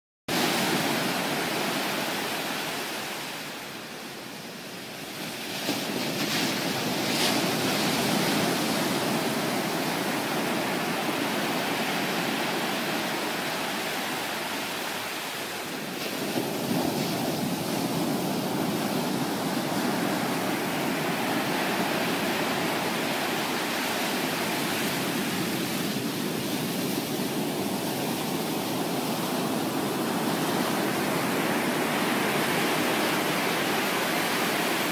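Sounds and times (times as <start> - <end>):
ocean surf breaking: 0.3 - 34.9.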